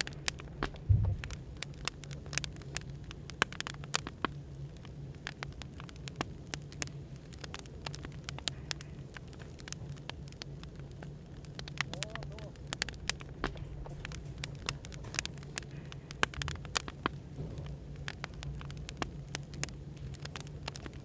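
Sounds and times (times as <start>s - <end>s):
firewood crackling and popping: 0.0s - 21.0s
low background hum: 0.0s - 21.0s.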